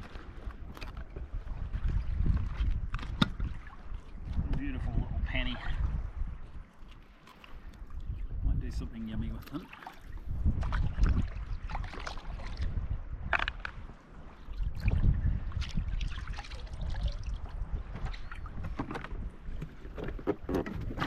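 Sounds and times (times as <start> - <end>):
wind buffeting microphone: 0.0 - 6.8, 7.6 - 21.0
water splashing against hull: 0.0 - 21.0.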